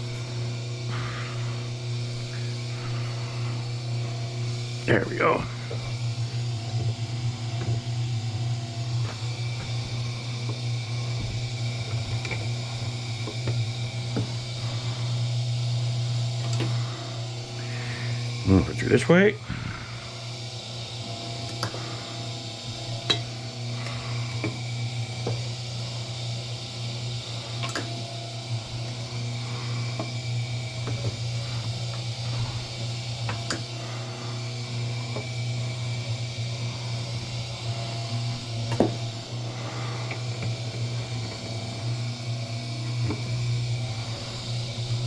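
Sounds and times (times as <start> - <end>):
machine humming: 0.0 - 45.0.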